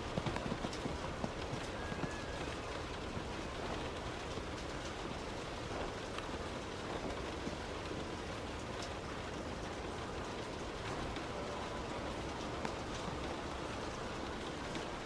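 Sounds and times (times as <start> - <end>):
heavy rain hissing on car: 0.0 - 15.0
raindrops ticking: 0.0 - 15.0
tyres on wet road: 0.0 - 15.0.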